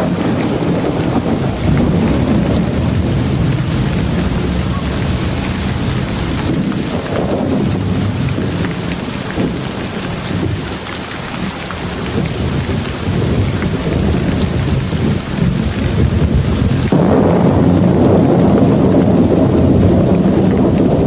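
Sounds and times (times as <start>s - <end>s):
heavy rain: 0.0s - 21.0s
raindrop ticks: 0.0s - 21.0s
thunder rumbling: 0.0s - 21.0s.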